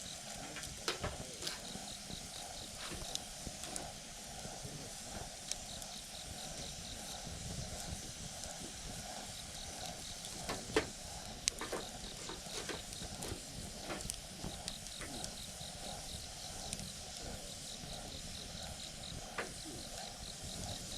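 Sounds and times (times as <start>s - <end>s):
burning wood crackles and pops: 0.0s - 20.9s
low rush of flame: 0.0s - 20.9s.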